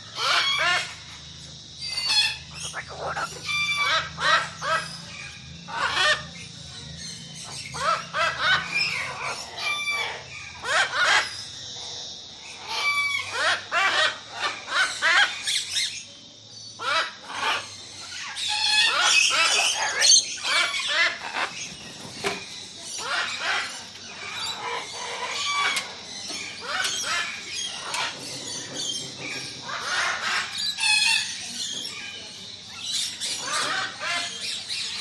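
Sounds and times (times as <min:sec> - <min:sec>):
tropical birds squawking: 0:00.0 - 0:16.1, 0:16.7 - 0:35.0.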